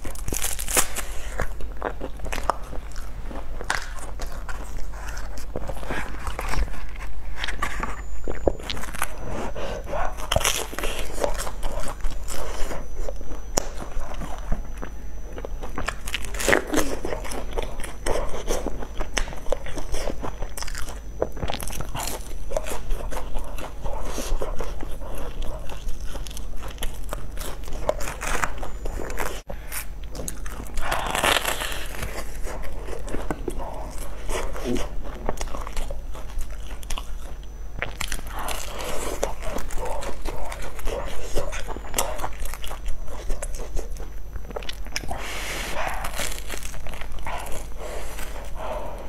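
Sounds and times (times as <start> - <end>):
crunchy chewing: 0.0 - 49.0.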